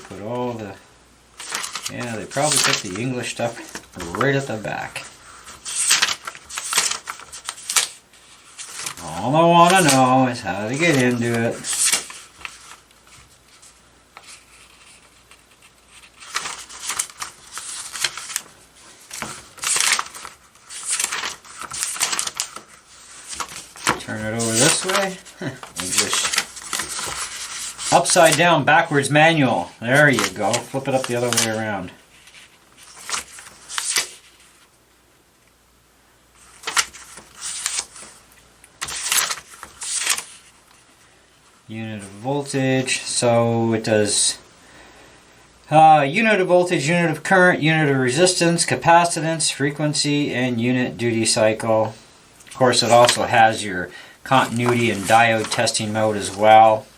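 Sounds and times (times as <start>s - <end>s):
paper pages rustling: 1.4s - 34.8s, 36.4s - 43.2s, 48.2s - 56.9s.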